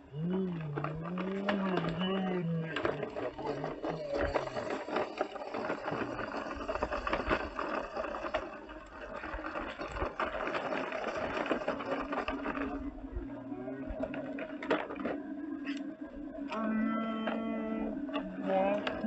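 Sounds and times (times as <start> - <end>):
small clicks and rattling: 0.1 - 19.0
toy motor whirring: 0.2 - 19.0.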